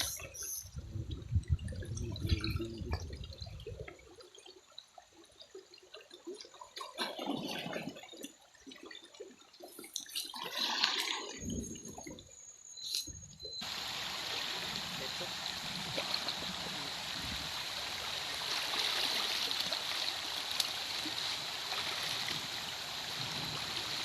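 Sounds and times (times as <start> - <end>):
water splashing: 0.0 - 12.2, 13.6 - 24.0
water drips: 0.0 - 22.4
river water sloshing and gurgling: 0.0 - 24.0.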